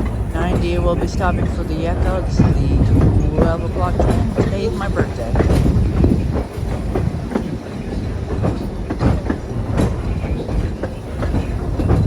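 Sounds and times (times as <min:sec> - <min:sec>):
train rumbling on track: 0:00.0 - 0:12.0
wheels clicking over rails: 0:00.0 - 0:12.0.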